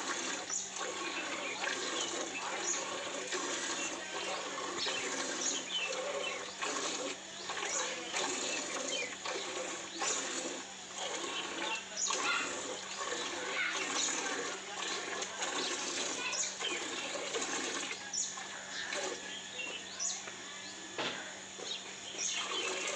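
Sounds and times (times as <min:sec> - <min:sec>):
milk spraying into metal bucket: 0:00.0 - 0:19.8, 0:22.2 - 0:22.9.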